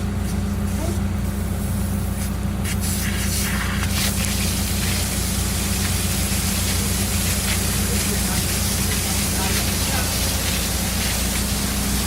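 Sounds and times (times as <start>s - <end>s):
high-pressure water rushing: 0.0s - 12.0s.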